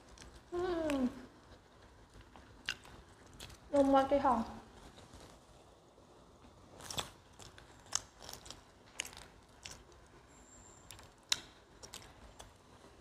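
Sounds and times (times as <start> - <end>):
people chewing crunchy food: 0.0 - 3.9, 4.6 - 13.0.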